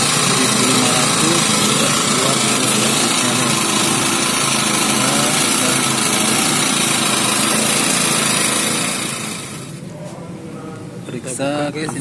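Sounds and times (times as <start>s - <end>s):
generator engine buzzing hum: 0.0s - 9.9s.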